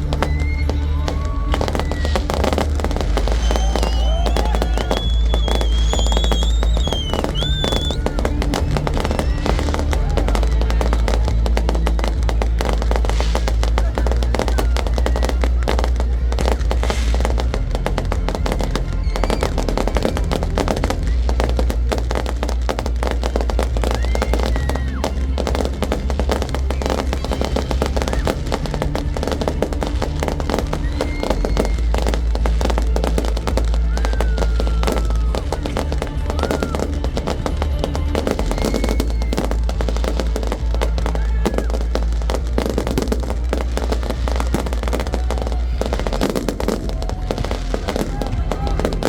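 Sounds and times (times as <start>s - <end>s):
fireworks bangs and crackles: 0.0s - 49.0s
fireworks whistling: 0.0s - 49.0s
music with heavy bass: 0.0s - 49.0s.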